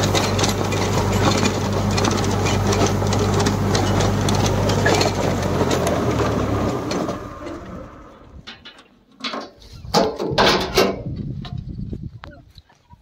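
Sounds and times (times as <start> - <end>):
diesel tractor with rotavator: 0.0 - 11.7.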